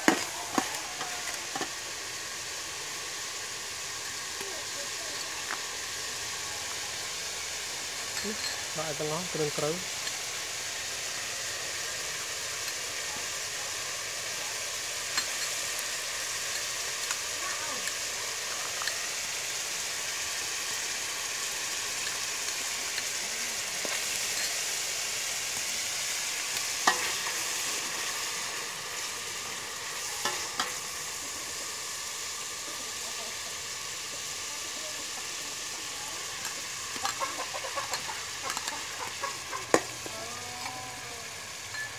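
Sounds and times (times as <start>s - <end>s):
pork sizzling in fat: 0.0s - 41.9s.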